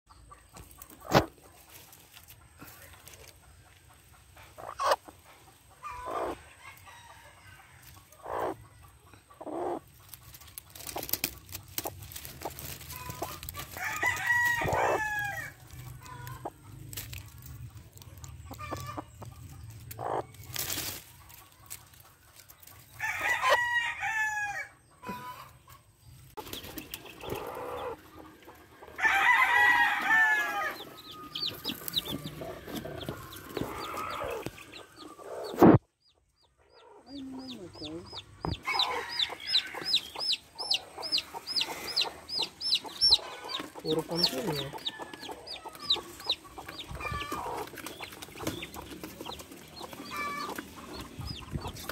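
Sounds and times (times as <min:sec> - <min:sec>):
chickens clucking: 0:00.1 - 0:23.7, 0:24.7 - 0:51.9.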